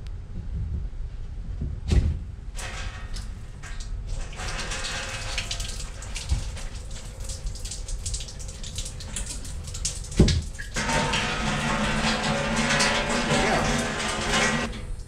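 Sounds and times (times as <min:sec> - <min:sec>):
water splashing onto floor: 0:02.6 - 0:15.0.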